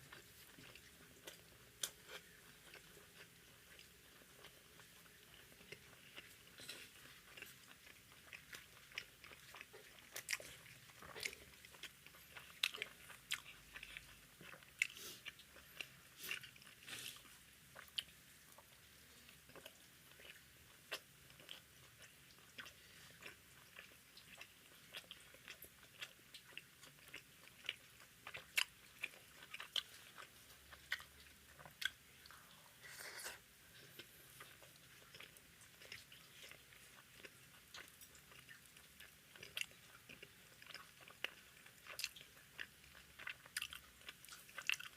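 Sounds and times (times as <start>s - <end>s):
person chewing and biting food: 0.1s - 18.6s, 19.5s - 32.5s, 33.1s - 44.9s.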